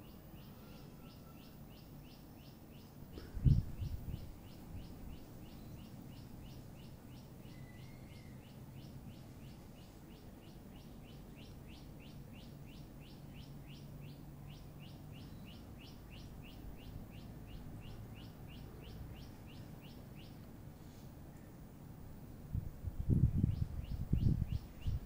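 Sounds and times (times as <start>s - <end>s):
small bird chirping: 0.0s - 20.5s, 23.1s - 25.0s.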